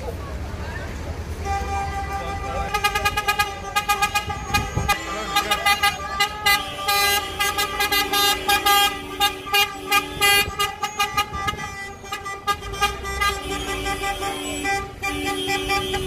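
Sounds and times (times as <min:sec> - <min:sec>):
car horns honking: 0:01.2 - 0:16.0
low held car horn: 0:01.4 - 0:16.0.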